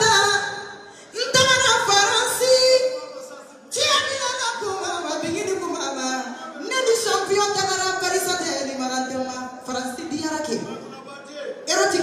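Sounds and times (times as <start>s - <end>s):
woman singing through loudspeakers: 0.0s - 3.0s, 3.7s - 10.7s.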